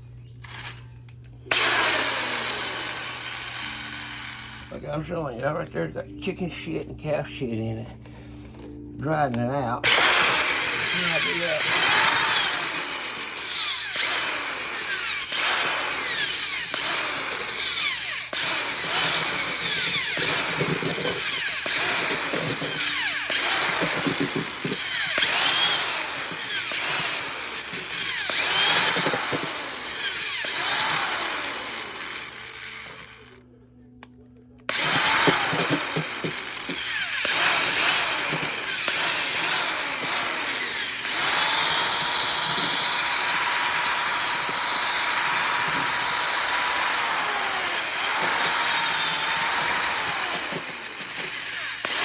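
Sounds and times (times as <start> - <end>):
electric drill churning soil: 0.0 - 5.0, 9.8 - 33.4, 34.7 - 52.0.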